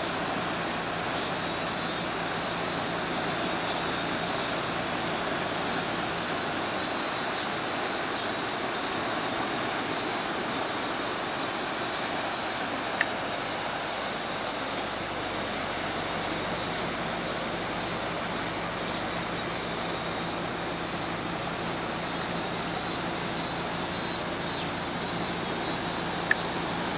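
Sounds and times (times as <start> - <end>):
river rushing over rocks: 0.0 - 26.9.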